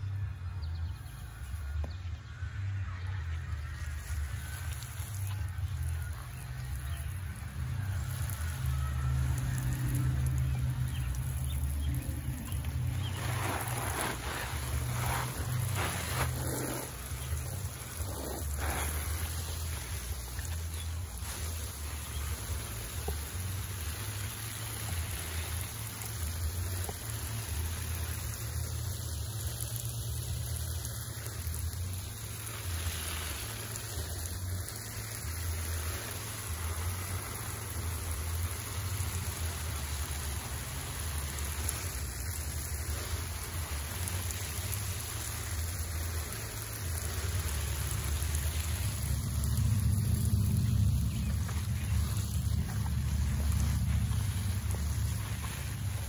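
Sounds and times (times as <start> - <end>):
steady hiss of spraying water: 0.0 - 56.0.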